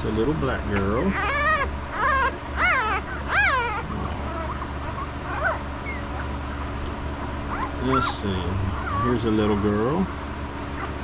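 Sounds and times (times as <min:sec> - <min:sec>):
puppy whimpering: 0:00.1 - 0:10.2, 0:10.8 - 0:11.0.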